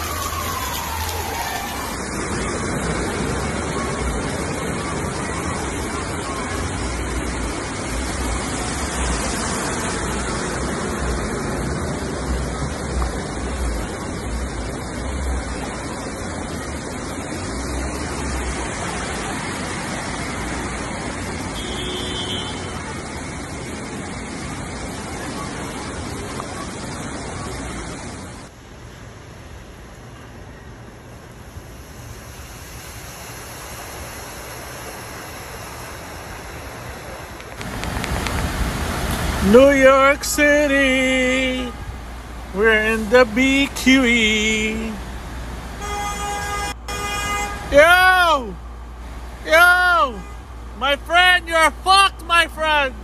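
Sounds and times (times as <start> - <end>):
torrential rain pouring: 0.0 - 28.7, 31.3 - 53.0
floodwater rushing: 0.0 - 53.0.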